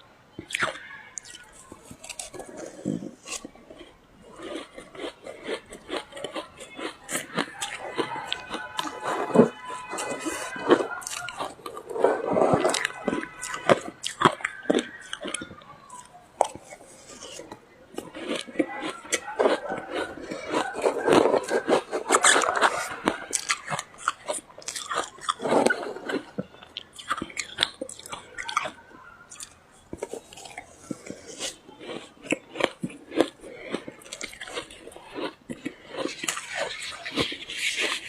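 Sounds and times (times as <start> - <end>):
ice being chewed: 0.4 - 38.0.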